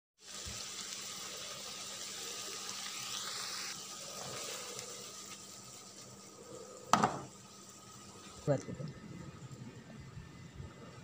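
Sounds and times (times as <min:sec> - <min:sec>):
food sizzling in a wok: 0:00.2 - 0:11.0.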